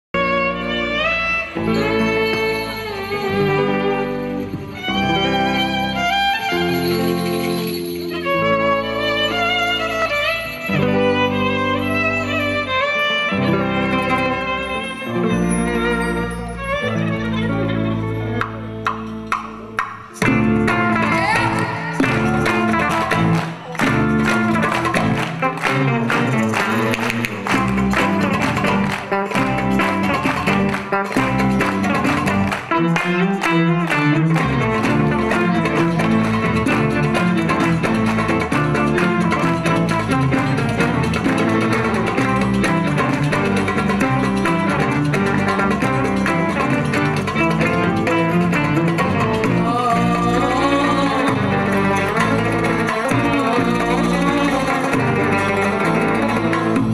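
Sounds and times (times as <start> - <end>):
violin: 0.0 - 56.9
live band playing pop: 0.2 - 56.9
plucked strings: 0.2 - 56.9.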